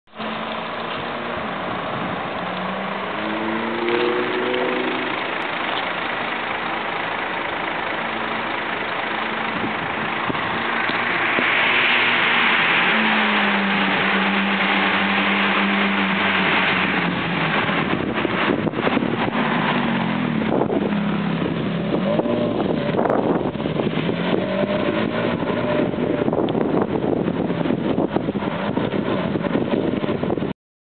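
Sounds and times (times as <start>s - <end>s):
car engine and exhaust running: 0.1s - 30.5s
rough crackling noise: 0.1s - 30.5s.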